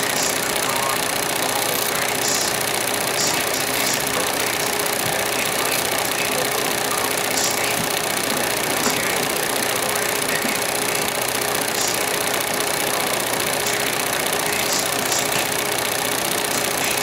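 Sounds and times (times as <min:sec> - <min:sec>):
small motor-driven machine running: 0:00.0 - 0:17.0.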